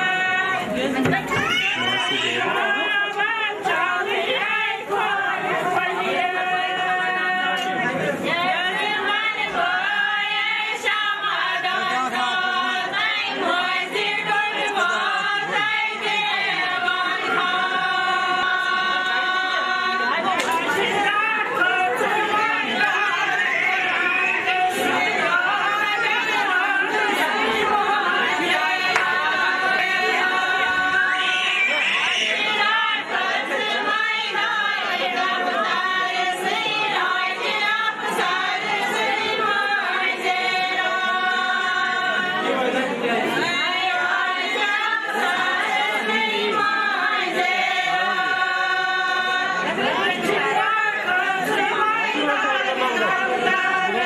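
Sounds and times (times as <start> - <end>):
women singing together: 0.0 - 54.0.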